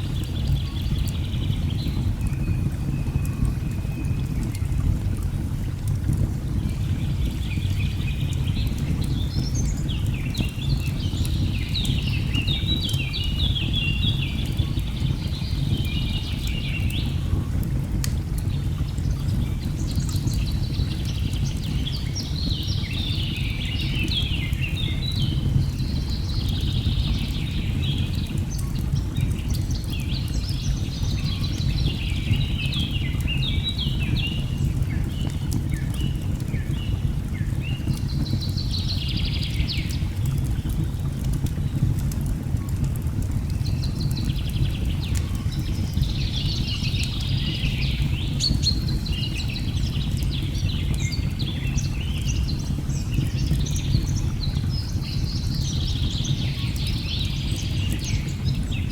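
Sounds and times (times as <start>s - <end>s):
birds singing: 0.0s - 4.7s, 6.5s - 17.6s, 18.3s - 58.9s
faint wood fire crackles: 0.0s - 58.9s
rush of falling water: 0.0s - 58.9s.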